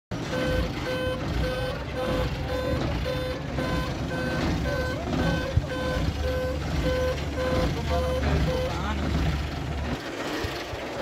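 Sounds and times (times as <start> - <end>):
truck reversing beeper: 0.1 - 10.6
truck engine rumbling: 0.1 - 11.0.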